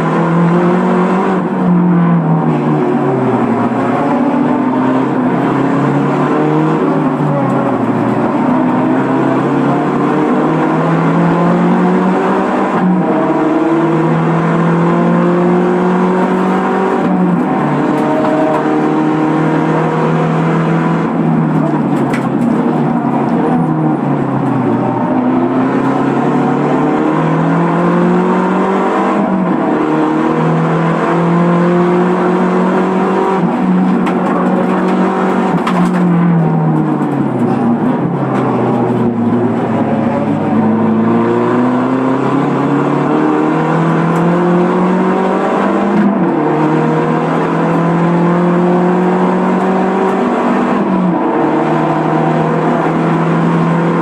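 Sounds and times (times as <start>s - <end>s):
race car engine accelerating: 0.0s - 54.0s.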